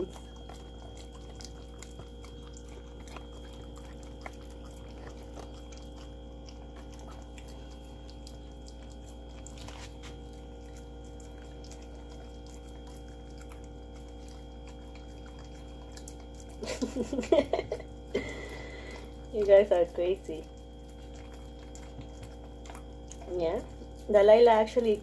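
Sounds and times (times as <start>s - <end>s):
dogs licking and chewing: 0.0s - 25.0s
steady background hum: 0.0s - 25.0s.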